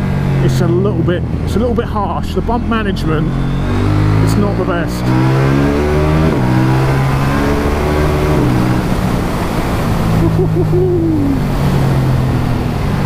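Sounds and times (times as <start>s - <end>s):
motorcycle engine accelerating: 2.3s - 13.0s.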